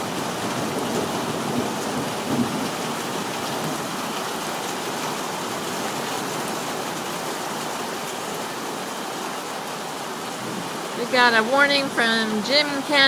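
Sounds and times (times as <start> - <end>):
heavy rain and hail: 0.0 - 13.0.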